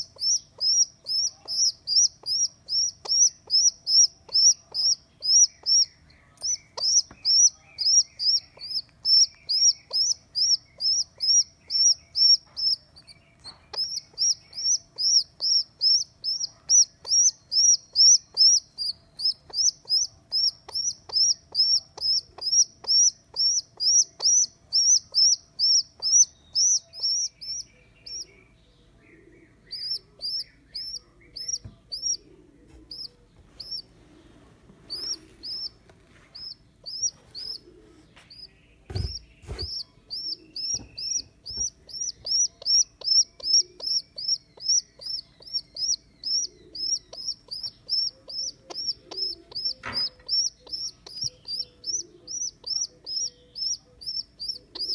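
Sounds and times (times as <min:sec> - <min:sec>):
baby pigeon peeping: 0:00.0 - 0:54.9.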